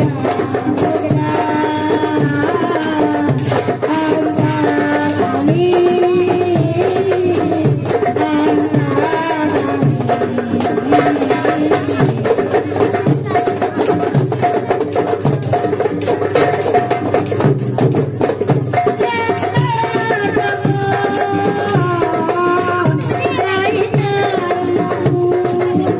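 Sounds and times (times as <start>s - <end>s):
hand drums beating: 0.0s - 25.9s.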